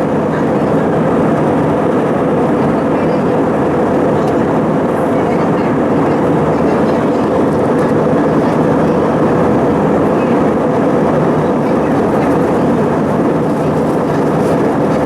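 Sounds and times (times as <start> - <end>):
jet engines and airflow rushing: 0.0 - 15.0.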